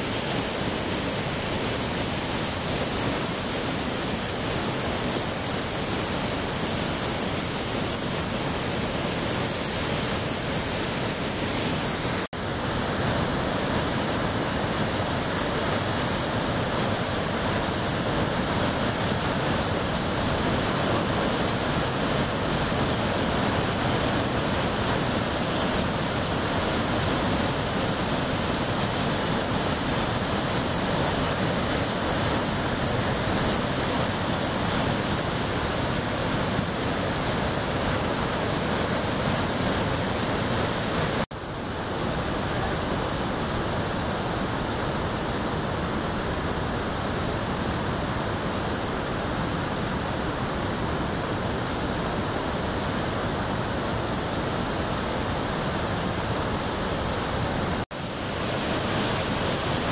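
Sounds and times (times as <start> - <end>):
whitewater rushing over rocks: 0.0 - 59.9.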